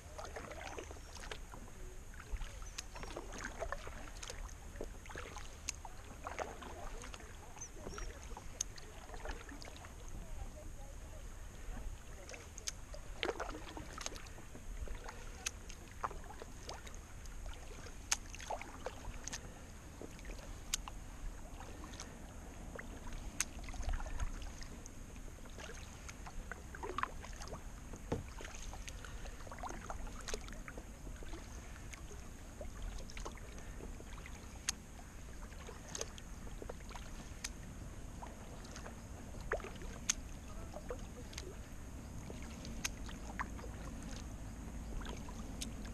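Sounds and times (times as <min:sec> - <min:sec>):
low steady rumble: 0:00.0 - 0:45.9
paddle splashing in water: 0:00.0 - 0:45.9.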